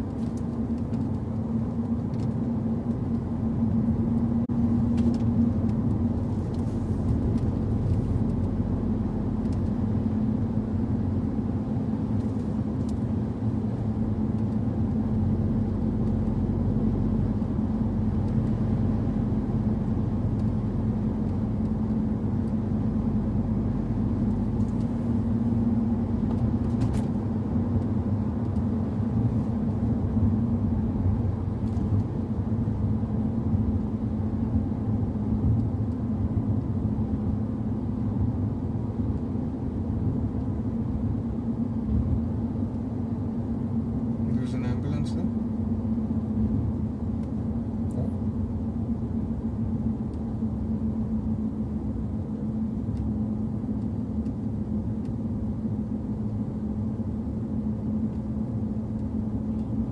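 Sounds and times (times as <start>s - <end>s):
car engine running steadily: 0.0s - 59.9s.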